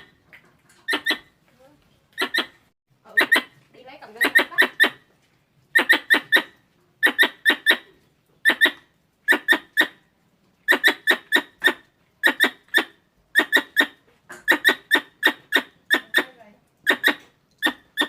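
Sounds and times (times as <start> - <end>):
squirrel chattering chirps: 0.9 - 1.3, 2.2 - 5.0, 5.7 - 10.0, 10.7 - 18.0.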